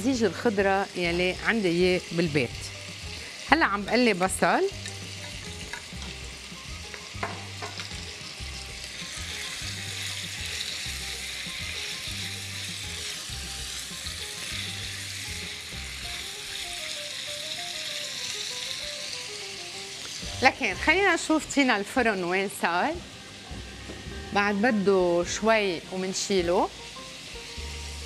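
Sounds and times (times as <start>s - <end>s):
onion sizzling in oil: 0.0s - 28.0s.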